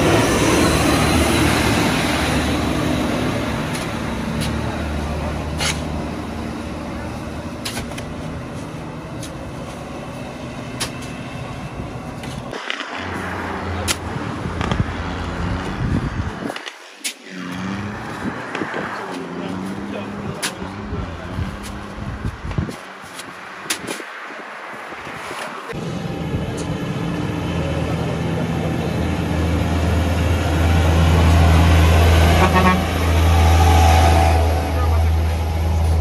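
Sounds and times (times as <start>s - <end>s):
dump truck engines under load: 0.0s - 36.0s.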